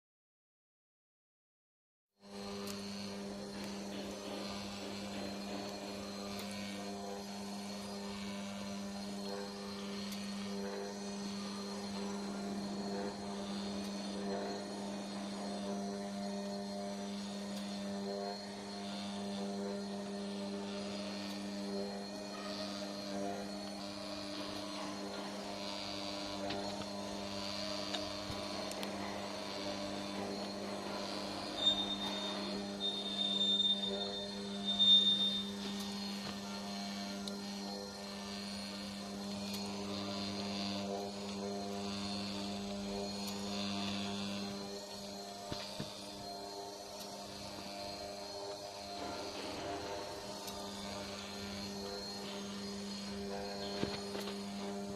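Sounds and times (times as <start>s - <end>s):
steady electric hum: 2.2s - 54.9s.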